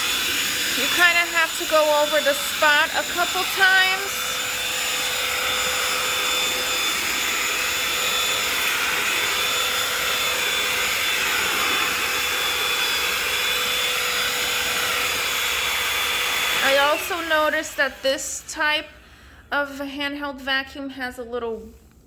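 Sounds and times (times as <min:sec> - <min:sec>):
handheld vacuum cleaner running: 0:00.0 - 0:18.9.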